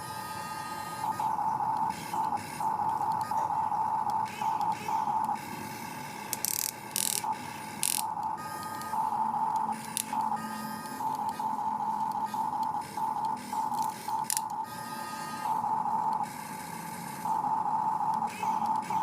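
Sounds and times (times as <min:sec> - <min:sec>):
small electric motors whining: 0:00.0 - 0:19.0.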